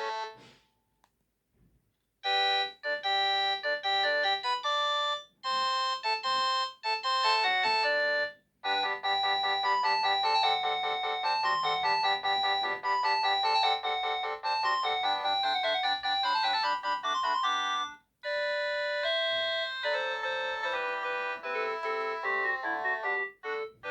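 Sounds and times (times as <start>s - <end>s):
synthesized phone ringtone melody: 2.3s - 23.9s.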